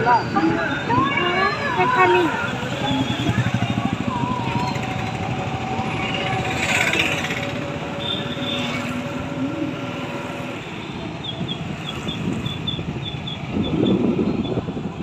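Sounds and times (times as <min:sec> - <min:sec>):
street traffic rumble: 0:00.0 - 0:15.0
vehicle passing: 0:00.4 - 0:15.0.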